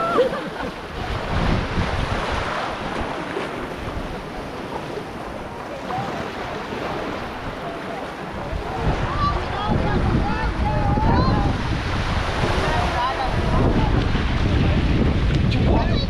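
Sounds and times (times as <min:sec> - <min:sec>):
sea water rushing: 0:00.0 - 0:16.0
wind buffeting microphone: 0:00.0 - 0:16.0.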